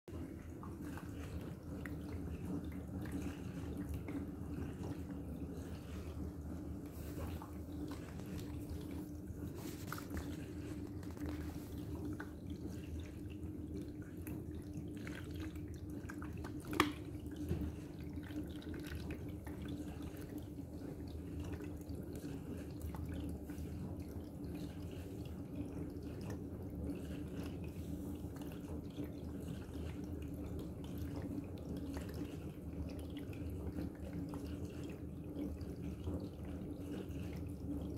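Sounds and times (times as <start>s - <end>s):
electric pump hum: 0.1s - 37.9s
water trickling and dripping: 0.1s - 37.9s.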